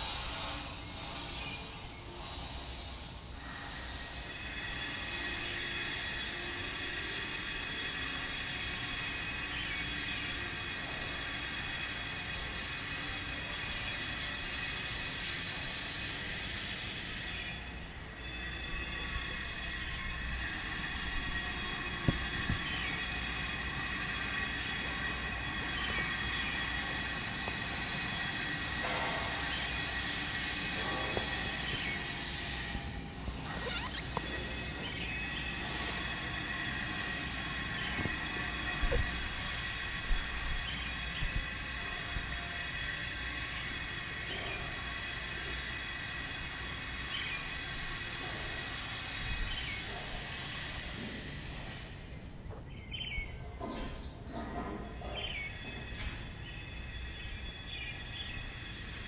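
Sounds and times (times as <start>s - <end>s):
power tool grinding stone: 3.5s - 51.7s.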